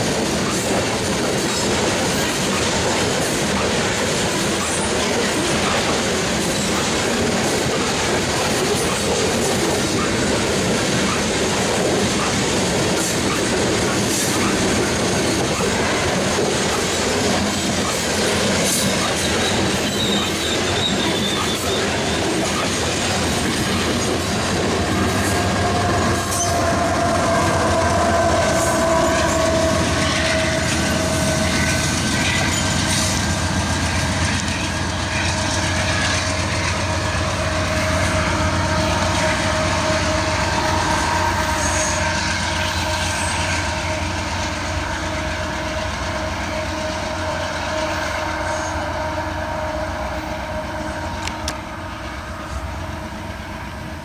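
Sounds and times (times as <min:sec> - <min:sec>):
diesel locomotive rumble: 0:00.0 - 0:54.0
train wheels squealing: 0:01.3 - 0:53.2.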